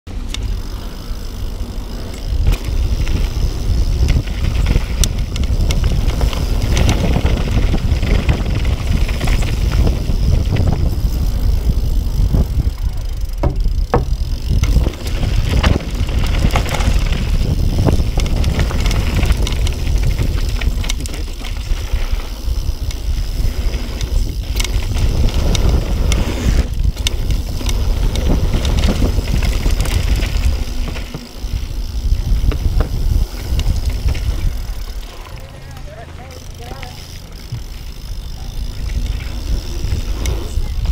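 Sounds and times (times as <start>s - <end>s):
bike clicking and rattling: 0.1s - 40.9s
tyres rumbling on packed dirt: 0.1s - 40.9s
wind on microphone: 2.3s - 35.2s, 37.5s - 40.9s.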